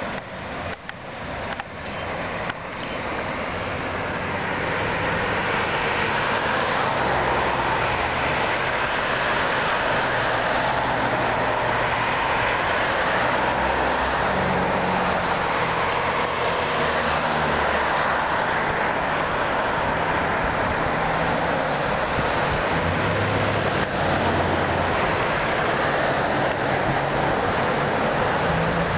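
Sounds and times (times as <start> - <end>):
vehicle rushing noise: 3.0 - 28.9.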